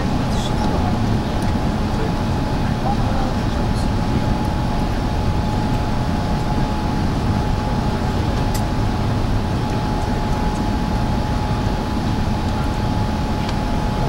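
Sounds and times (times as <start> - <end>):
jet engine low rumble: 0.0 - 14.0
jet engine whine: 0.0 - 14.0.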